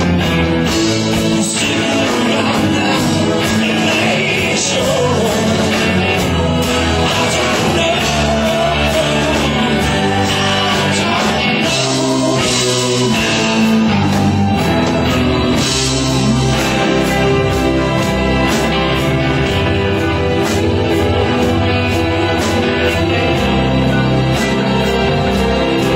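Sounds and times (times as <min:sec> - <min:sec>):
electric guitar: 0:00.0 - 0:25.9
rhythm section: 0:00.0 - 0:25.9
person singing: 0:00.8 - 0:25.9.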